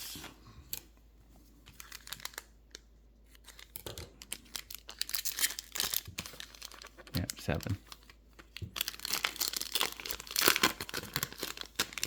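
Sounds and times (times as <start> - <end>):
plastic wrapping crinkling and tearing: 1.6 - 12.0.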